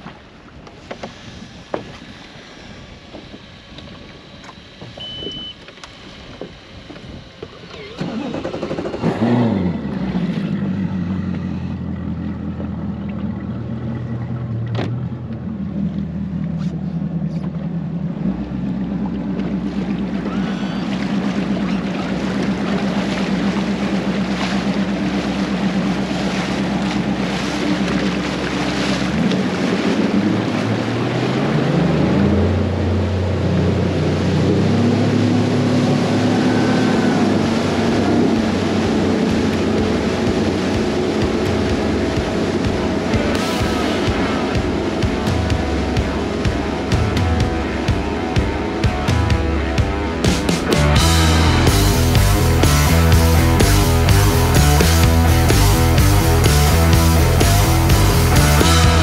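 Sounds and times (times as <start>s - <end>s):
outboard motor running: 0.0s - 59.0s
water: 0.0s - 59.0s.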